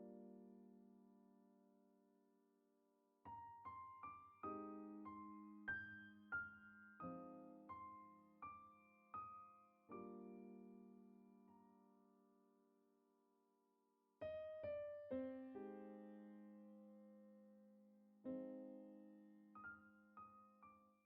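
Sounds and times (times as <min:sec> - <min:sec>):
soft piano music: 0:00.0 - 0:02.4, 0:03.2 - 0:12.9, 0:14.2 - 0:21.0.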